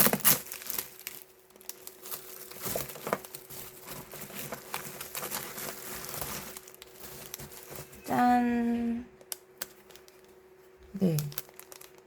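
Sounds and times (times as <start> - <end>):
wrapping rustling: 0.0 - 8.4, 9.3 - 12.0.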